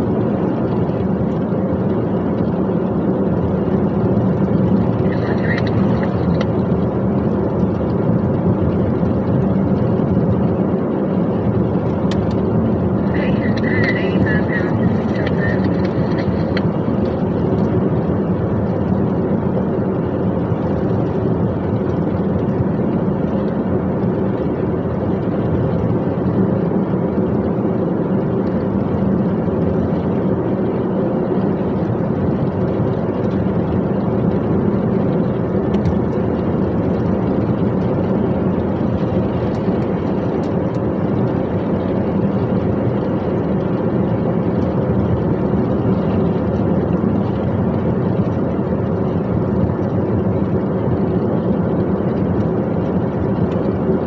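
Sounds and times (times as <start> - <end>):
truck diesel engine drone: 0.0 - 54.0.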